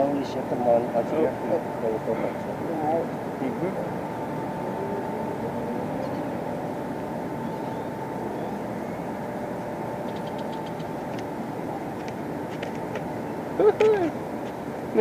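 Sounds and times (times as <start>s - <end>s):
thin constant hum: 0.0s - 15.0s.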